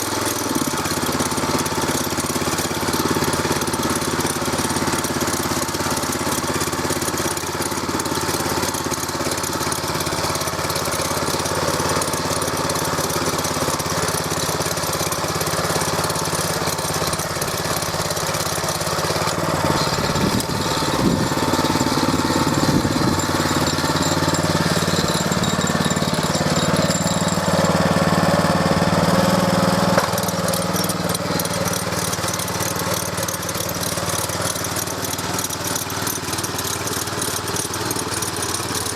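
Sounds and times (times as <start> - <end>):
tractor engine tilling ground: 0.0 - 38.9.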